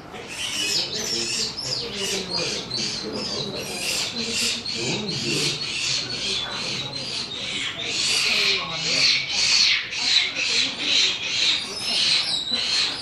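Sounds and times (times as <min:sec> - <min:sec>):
murmur of voices: 0:00.0 - 0:13.0
small birds chirping: 0:00.1 - 0:13.0.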